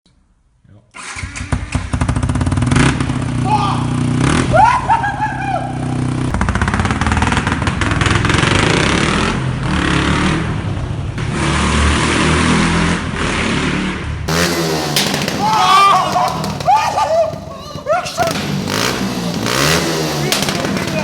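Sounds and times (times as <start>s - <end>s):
motorcycle engine revving: 1.0s - 21.0s
crackling exhaust: 1.8s - 21.0s.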